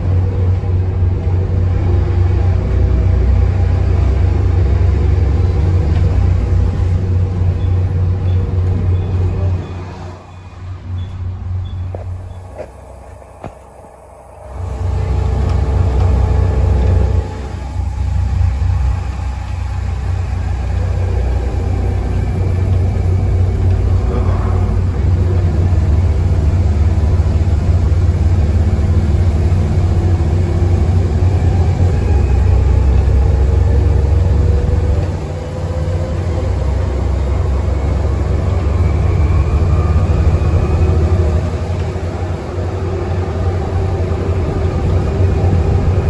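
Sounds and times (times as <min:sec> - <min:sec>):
bus diesel engine accelerating: 0:00.0 - 0:46.0.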